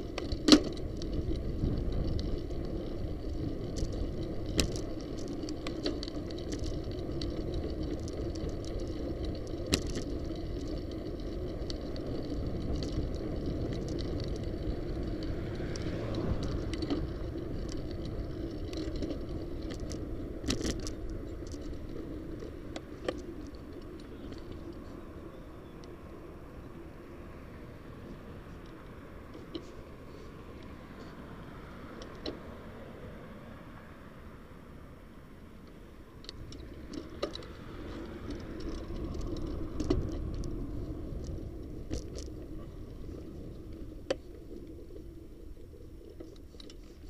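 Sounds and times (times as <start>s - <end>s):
bicycle rattling over bumps: 0.0s - 33.2s, 35.0s - 47.0s
bicycle tyres on pavement: 0.0s - 47.0s.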